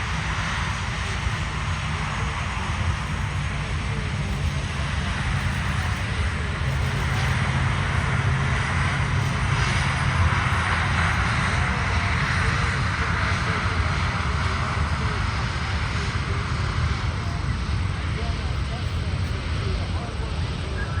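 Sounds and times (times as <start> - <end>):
aircraft engine running: 0.0 - 21.0.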